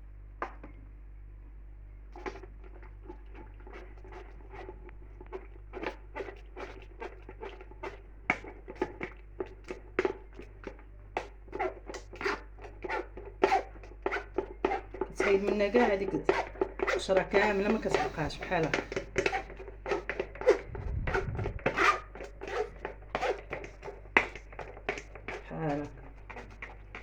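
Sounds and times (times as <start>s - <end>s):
scraping pulp through a sieve: 2.1s - 27.0s.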